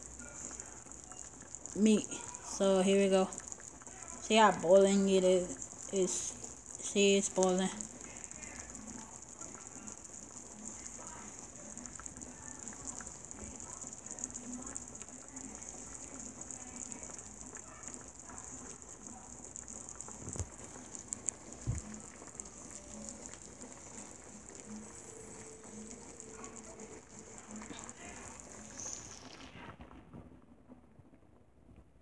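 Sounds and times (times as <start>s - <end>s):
broth bubbling in a pot: 0.0s - 32.0s.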